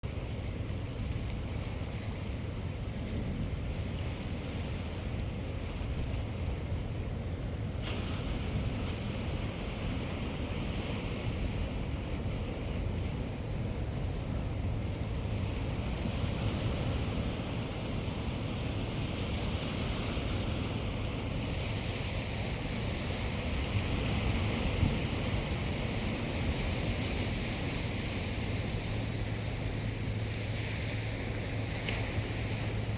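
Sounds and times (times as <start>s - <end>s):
sea surf washing: 0.0s - 32.9s
waves: 0.0s - 32.9s
wind blowing on the microphone: 0.0s - 32.9s.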